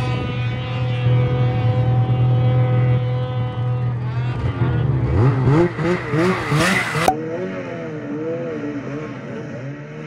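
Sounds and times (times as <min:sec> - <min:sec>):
snowmobile engine revving: 0:00.6 - 0:10.0.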